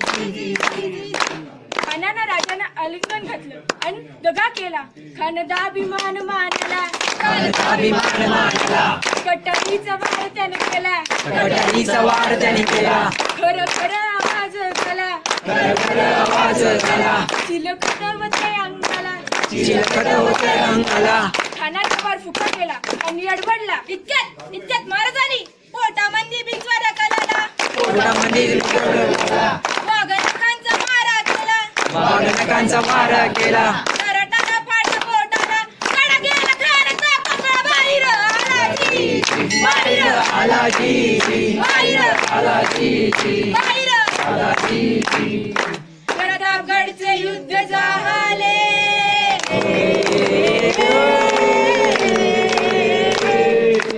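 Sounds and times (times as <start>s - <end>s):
women chanting: 0.0s - 3.3s, 5.3s - 21.8s, 26.1s - 53.9s
women singing together: 0.0s - 3.4s, 5.3s - 22.6s, 26.5s - 53.9s
hand claps: 0.0s - 4.8s, 5.5s - 23.8s, 26.4s - 46.4s, 49.4s - 53.9s.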